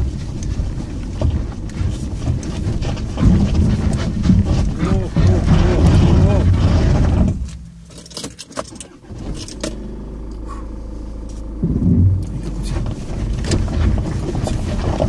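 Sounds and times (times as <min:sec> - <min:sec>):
low engine hum: 0:00.0 - 0:15.0
tyres rumbling on gravel: 0:00.0 - 0:15.0.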